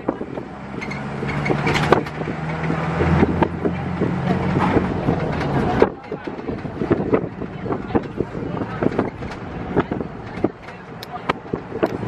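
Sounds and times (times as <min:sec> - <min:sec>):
road noise: 0:00.0 - 0:12.0
vehicle engine humming: 0:00.0 - 0:12.0
knocks and rattles: 0:00.1 - 0:12.0.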